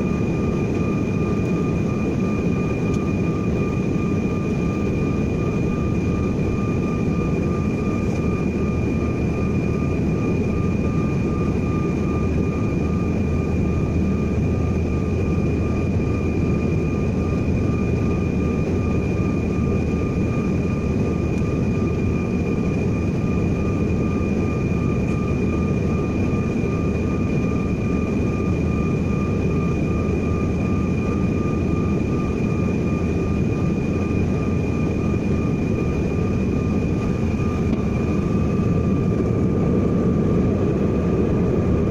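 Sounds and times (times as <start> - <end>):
jet cabin engine rumble: 0.0 - 41.9
turbofan high whine: 0.0 - 41.9.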